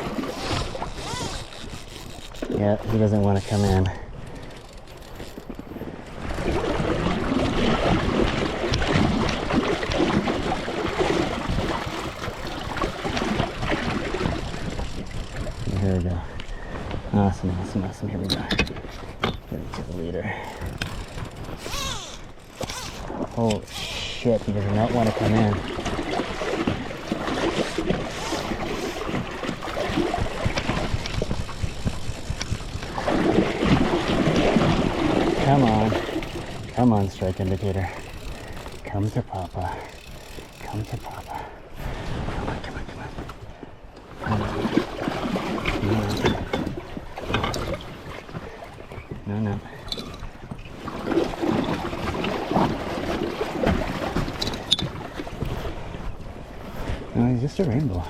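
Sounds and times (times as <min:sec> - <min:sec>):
water splashing around raft: 0:00.0 - 0:58.0
wind rumbling on microphone: 0:00.0 - 0:58.0.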